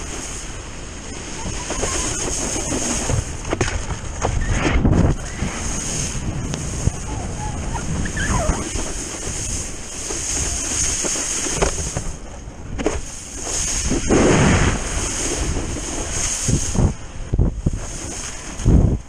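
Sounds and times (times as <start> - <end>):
water rushing and spraying: 0.0 - 19.0
wind buffeting microphone: 0.0 - 19.0.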